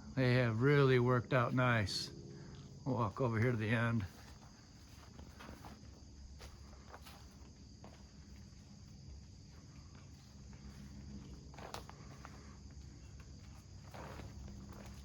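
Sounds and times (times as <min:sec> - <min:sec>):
high insect trill: 0:00.0 - 0:15.0
footsteps on ground: 0:01.4 - 0:15.0.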